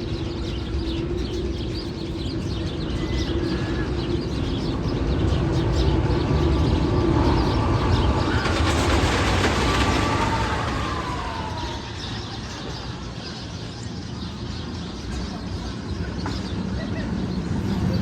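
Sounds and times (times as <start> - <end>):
roller coaster rumble and whine: 0.0 - 18.0.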